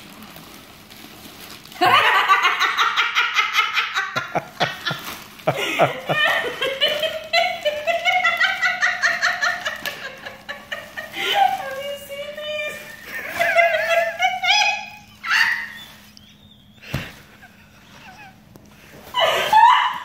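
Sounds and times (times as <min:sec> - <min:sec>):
woman laughing hard: 0:01.8 - 0:18.4, 0:19.0 - 0:20.0.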